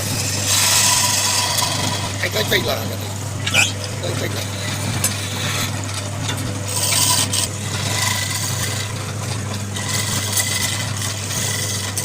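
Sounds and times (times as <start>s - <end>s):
tool scraping spinning wood: 0.0s - 12.0s
wood lathe motor hum: 0.0s - 12.0s.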